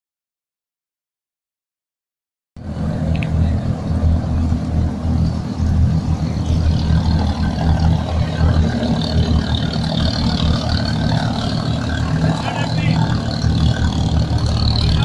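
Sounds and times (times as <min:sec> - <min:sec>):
low engine rumble: 0:02.6 - 0:15.0.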